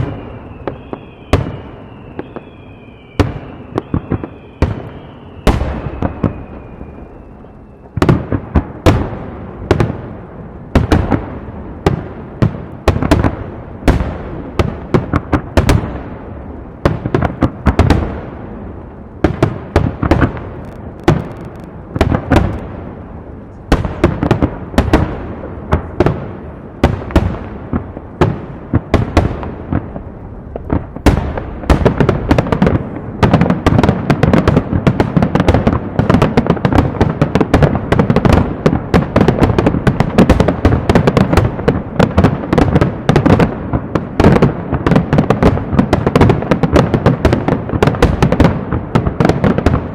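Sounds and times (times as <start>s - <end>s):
fireworks booming and crackling: 0.0s - 49.9s.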